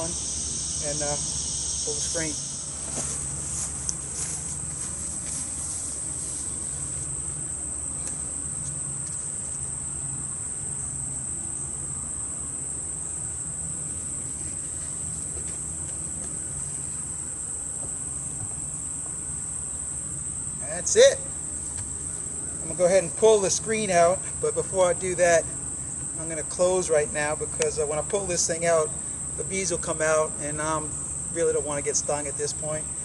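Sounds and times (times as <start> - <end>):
crickets shrilling: 0.0 - 33.0.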